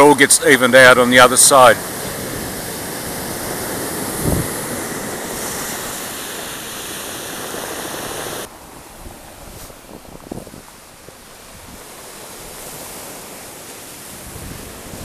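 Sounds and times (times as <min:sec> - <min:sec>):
surf washing over stony shore: 0:00.0 - 0:15.0.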